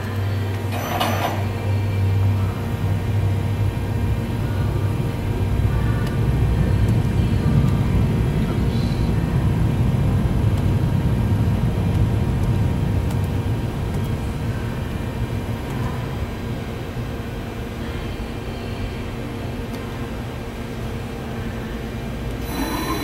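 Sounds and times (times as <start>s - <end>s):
faint hum tones: 0.0s - 23.0s
machining center rumbling: 0.0s - 23.0s.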